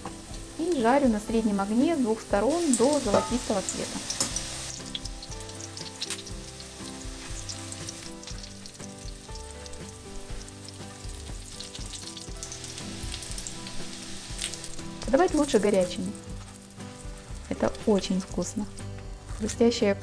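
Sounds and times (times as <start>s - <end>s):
patties sizzling in hot oil: 0.0s - 19.8s
soft background music: 0.0s - 20.0s.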